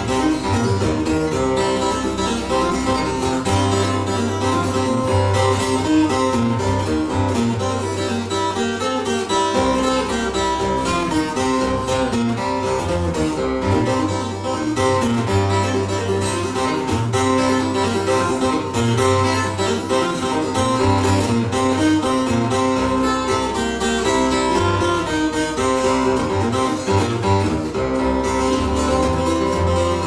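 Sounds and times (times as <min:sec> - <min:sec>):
acoustic guitar picking: 0:00.0 - 0:30.0.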